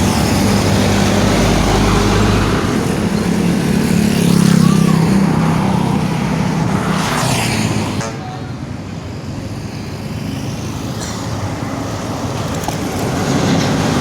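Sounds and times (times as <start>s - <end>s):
heavy vehicle engine: 0.0s - 14.0s
traffic road noise: 0.0s - 14.0s.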